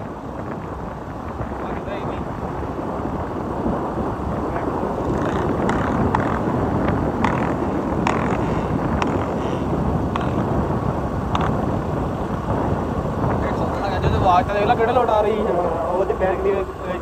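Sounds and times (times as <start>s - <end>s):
wind rushing: 0.0s - 17.0s.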